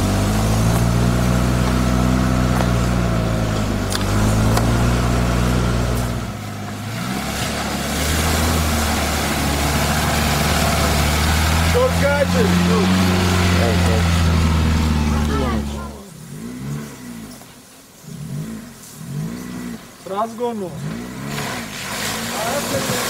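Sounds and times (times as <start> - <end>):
engine driving through mud: 0.0 - 23.0
off-road engine revving: 0.0 - 23.0.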